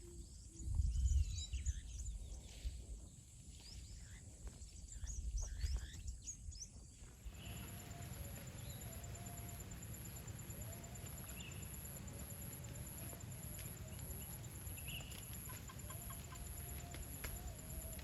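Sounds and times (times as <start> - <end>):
small birds chirping: 0.6 - 18.0.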